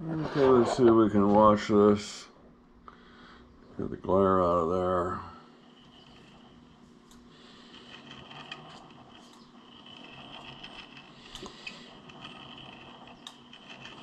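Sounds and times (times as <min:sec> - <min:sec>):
faint scraping: 0:00.0 - 0:02.2, 0:03.7 - 0:14.0.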